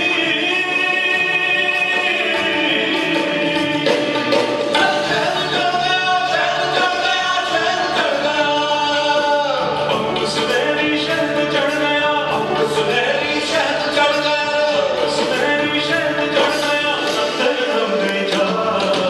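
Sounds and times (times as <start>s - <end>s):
person singing long sliding notes: 0.0s - 19.0s
rock band playing live: 0.0s - 19.0s.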